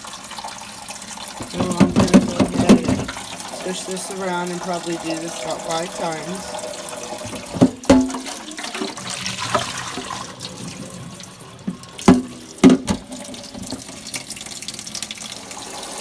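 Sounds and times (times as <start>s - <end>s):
water running and sloshing: 0.0s - 16.0s.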